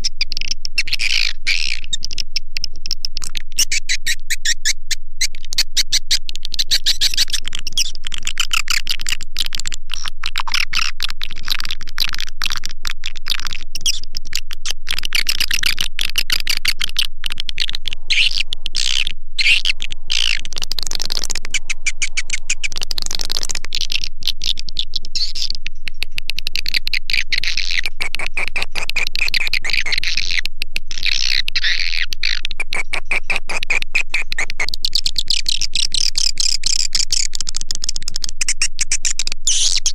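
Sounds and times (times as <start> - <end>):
swiftlets twittering: 0.0 - 39.9.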